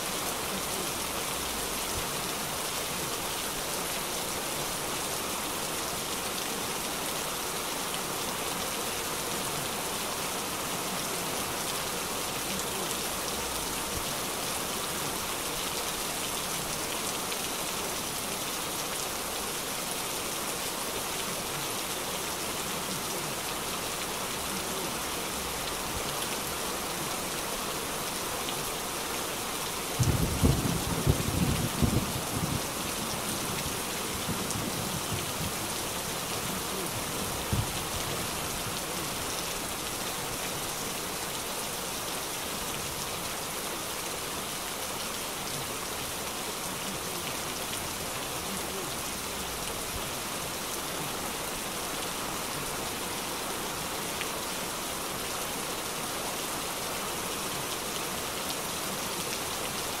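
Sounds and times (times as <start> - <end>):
heavy rain on a wet street: 0.0 - 60.0.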